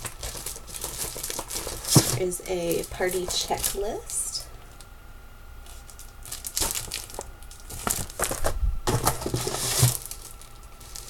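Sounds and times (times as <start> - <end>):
paper and packaging rustling: 0.0 - 4.9, 5.6 - 11.0.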